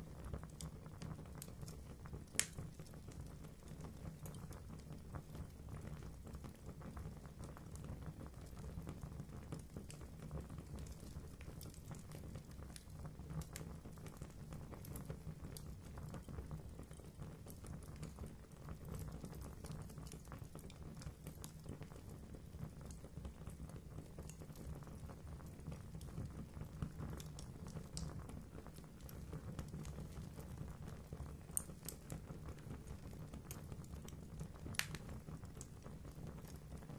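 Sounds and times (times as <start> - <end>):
fireplace fire crackling: 0.0 - 36.9.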